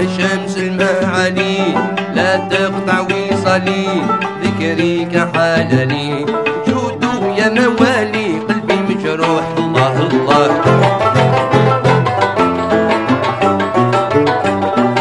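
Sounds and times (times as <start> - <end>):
hand drum percussion: 0.0 - 15.0
plucked lute melody: 0.0 - 15.0.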